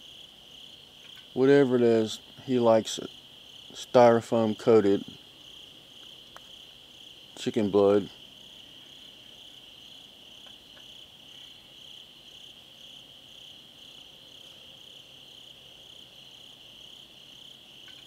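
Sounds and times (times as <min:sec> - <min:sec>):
higher pulsing insect chirp: 0:00.0 - 0:18.0
insects steady high trill: 0:00.0 - 0:18.0.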